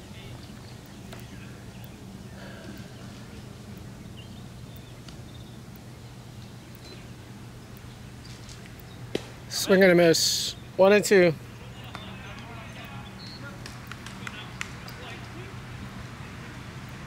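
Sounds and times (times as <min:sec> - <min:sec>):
faint distant sounds: 0:00.0 - 0:17.0
steady low hum: 0:00.0 - 0:17.0.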